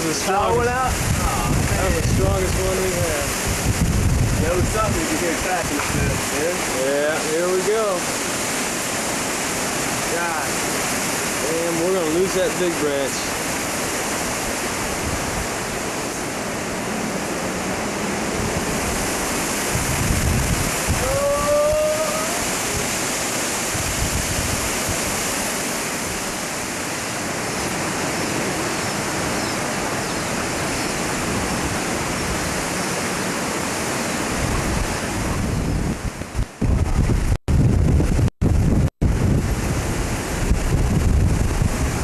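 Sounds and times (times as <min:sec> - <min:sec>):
strong wind through trees: 0:00.0 - 0:42.0.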